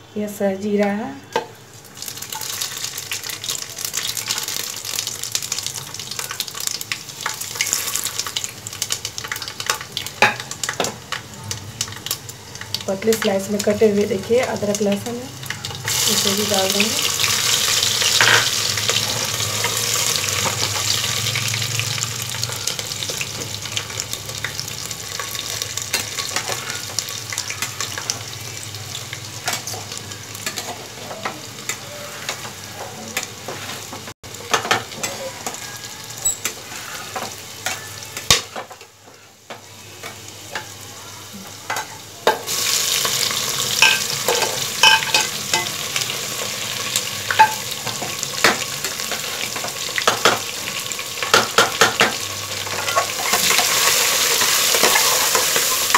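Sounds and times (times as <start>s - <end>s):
hot oil sizzling: 0.6s - 55.9s.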